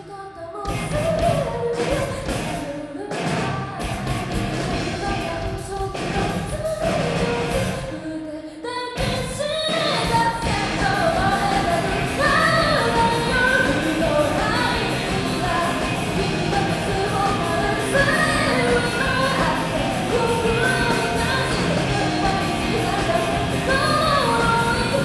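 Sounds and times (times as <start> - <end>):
rock band playing: 0.7 - 7.8, 9.0 - 25.0
lead singer singing: 4.8 - 25.0.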